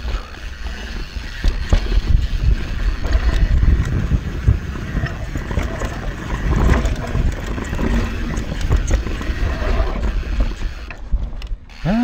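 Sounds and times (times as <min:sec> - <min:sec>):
bike chain and frame rattling: 0:00.0 - 0:12.0
bike tyres on loose dirt: 0:00.0 - 0:12.0.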